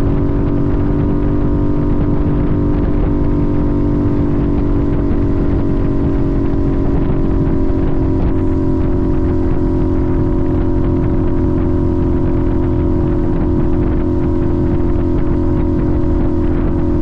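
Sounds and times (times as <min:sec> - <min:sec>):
motorcycle engine running: 0:00.0 - 0:17.0
wind and road rumble: 0:00.0 - 0:17.0.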